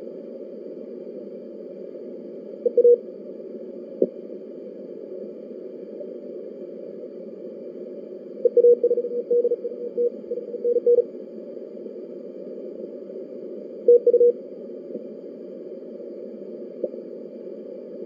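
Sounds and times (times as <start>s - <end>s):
radio receiver hiss: 0.0s - 18.0s.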